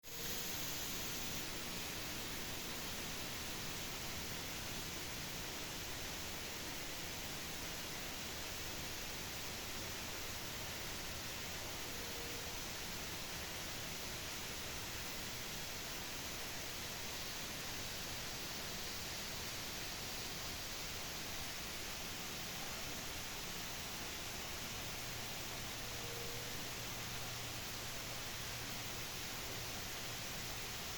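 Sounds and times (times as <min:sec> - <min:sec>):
steady hiss: 0:00.0 - 0:30.9.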